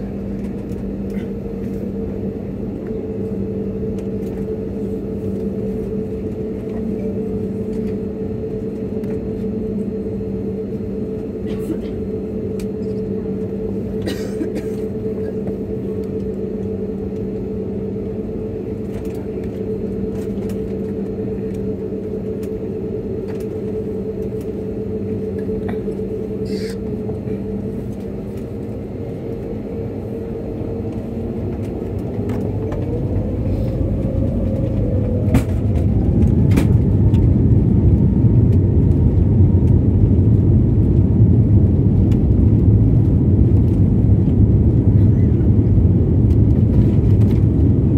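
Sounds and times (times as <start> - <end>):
jet engines humming in cabin: 0.0 - 47.9
rising engine whine: 0.0 - 47.9.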